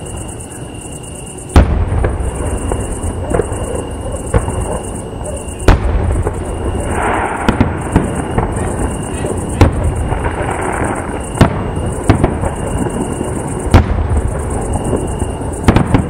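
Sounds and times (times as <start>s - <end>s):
fireworks crackling rumble: 0.0s - 16.0s.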